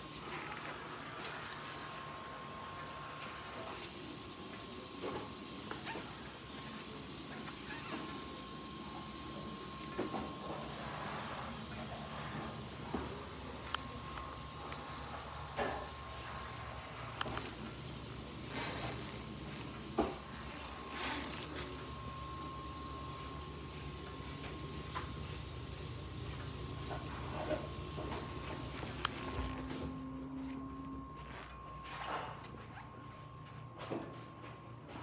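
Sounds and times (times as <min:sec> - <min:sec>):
constant hiss: 0:00.0 - 0:30.0.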